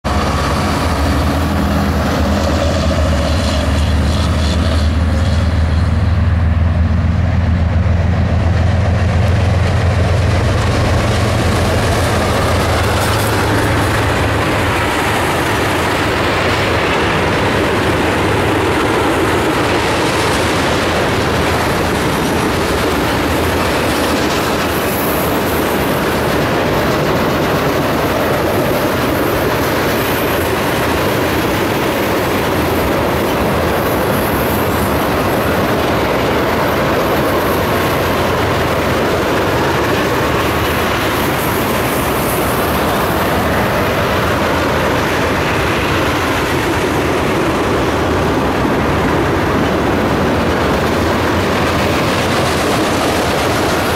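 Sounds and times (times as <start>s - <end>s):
diesel locomotive engine rumble: 0.0s - 53.9s
steel wheels rolling on rails: 0.0s - 53.9s
train wheels clickety-clack: 0.0s - 53.9s.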